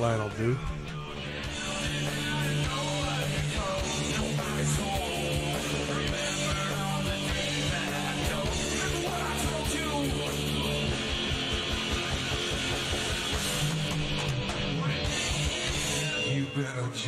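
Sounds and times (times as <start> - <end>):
person singing: 0.0 - 12.3, 13.4 - 17.0
rock music with guitar: 0.0 - 17.0.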